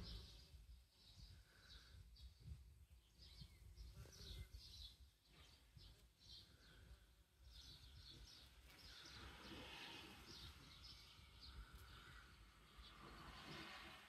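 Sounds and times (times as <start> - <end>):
small birds chirping faintly: 0.0 - 14.0.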